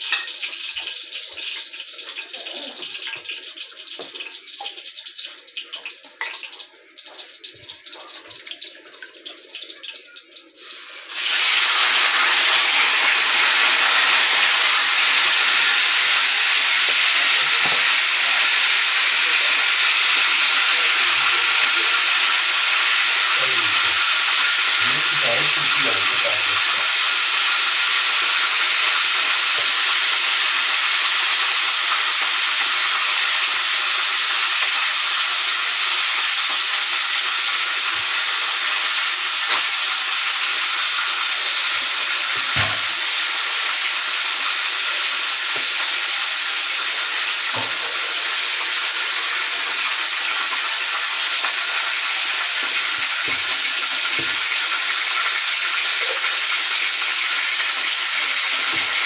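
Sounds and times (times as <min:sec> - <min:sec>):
fish sizzling in hot oil: 0:00.0 - 0:59.0.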